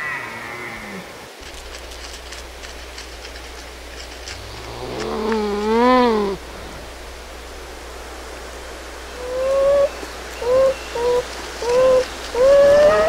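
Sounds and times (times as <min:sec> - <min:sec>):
faint hiss and hum: 0:00.0 - 0:13.0
coypu calling: 0:01.4 - 0:13.0.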